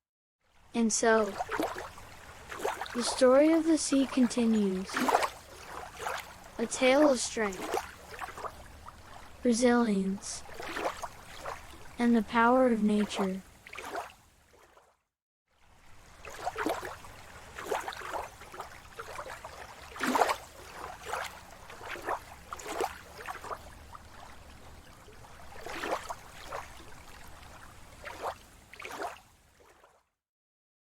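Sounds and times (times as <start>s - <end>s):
sea water lapping and splashing: 0.4s - 30.2s.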